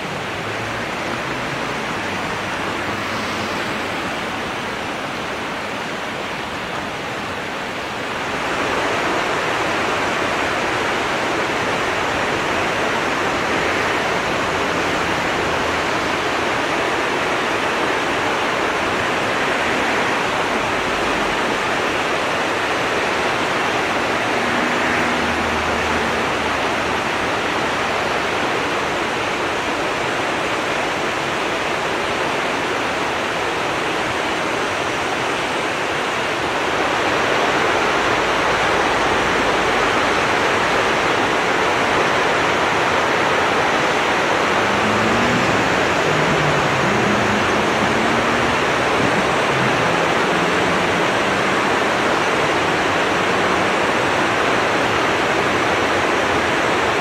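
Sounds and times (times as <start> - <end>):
river water rushing over shallows: 0.0 - 57.0.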